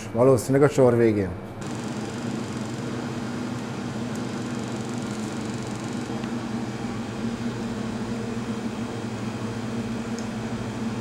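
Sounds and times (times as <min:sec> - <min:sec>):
machine hum: 0:01.5 - 0:11.0.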